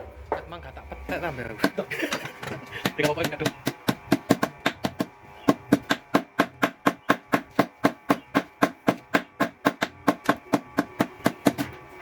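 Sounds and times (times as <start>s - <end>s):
power hammer striking: 1.6s - 11.8s.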